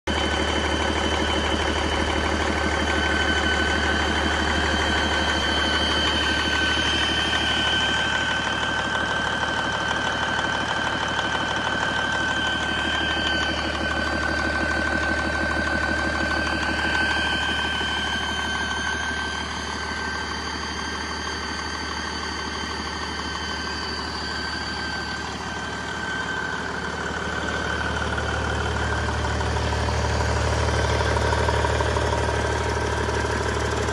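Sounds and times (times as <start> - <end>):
diesel engine idling: 0.1 - 33.9
high whine: 0.1 - 33.9.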